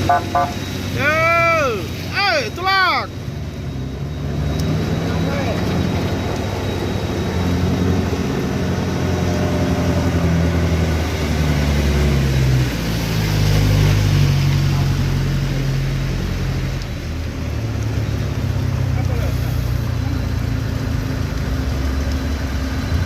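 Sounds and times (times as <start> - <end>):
heavy vehicle engine running: 0.0 - 23.0.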